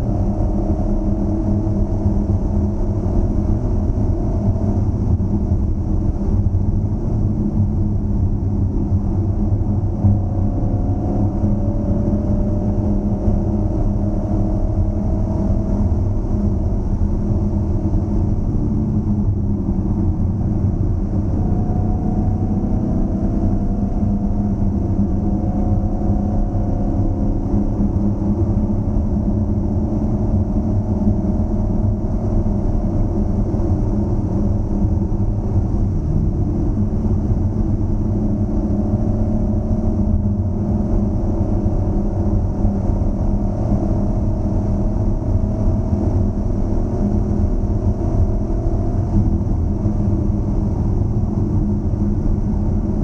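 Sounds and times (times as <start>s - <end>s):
car engine droning at cruise: 0.0s - 53.0s.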